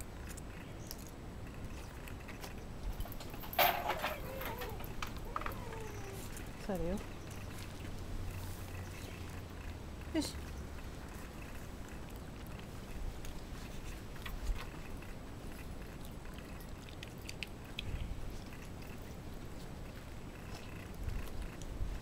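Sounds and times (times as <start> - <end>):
dogs chewing food: 0.0 - 22.0
small clicks and crunches: 0.0 - 22.0.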